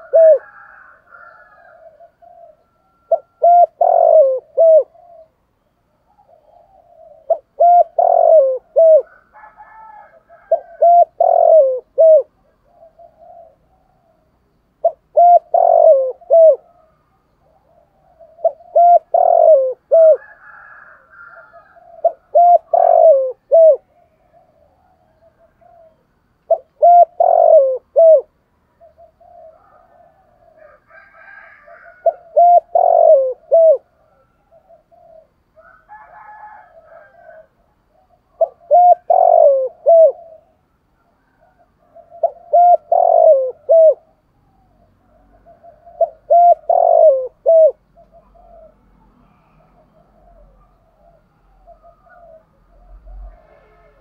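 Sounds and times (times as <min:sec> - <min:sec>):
dove cooing: 0:00.0 - 0:54.0
faint higher bird calls: 0:00.0 - 0:54.0.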